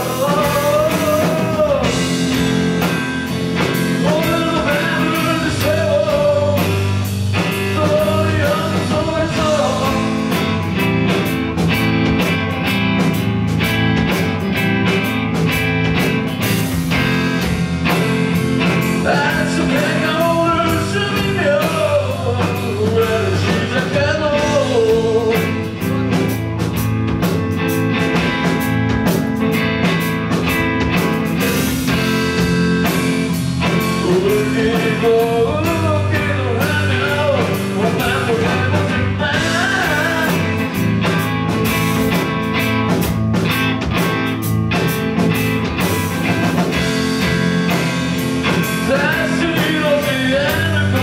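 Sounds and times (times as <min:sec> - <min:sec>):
rock band playing live: 0:00.0 - 0:51.0.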